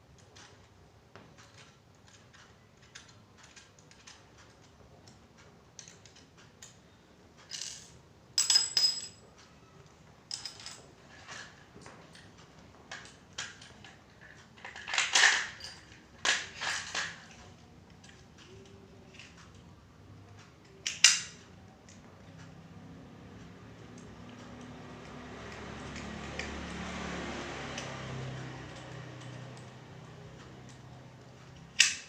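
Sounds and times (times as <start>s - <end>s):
metal clicks and clinks: 0.2s - 19.6s, 20.3s - 22.6s, 23.3s - 32.0s.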